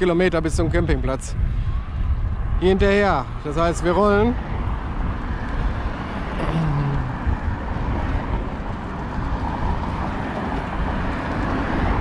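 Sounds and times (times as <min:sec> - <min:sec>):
busy road traffic: 0:00.0 - 0:12.0
wind rumbling on microphone: 0:00.0 - 0:12.0.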